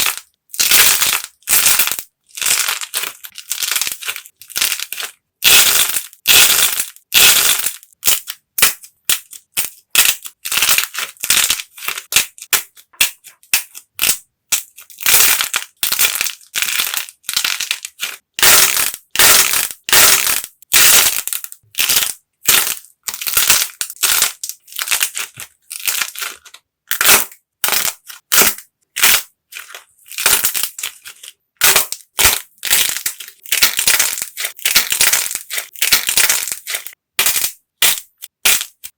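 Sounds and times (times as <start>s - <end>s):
dried clay cracking and crunching: 0.0s - 38.9s.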